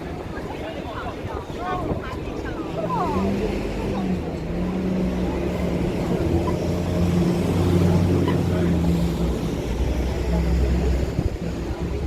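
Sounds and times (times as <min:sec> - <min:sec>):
people talking: 0:00.0 - 0:12.0.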